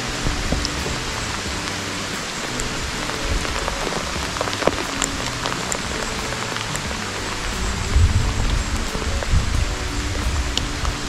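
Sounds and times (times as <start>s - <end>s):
faint background music: 0.0s - 11.0s
rain falling: 0.0s - 11.0s.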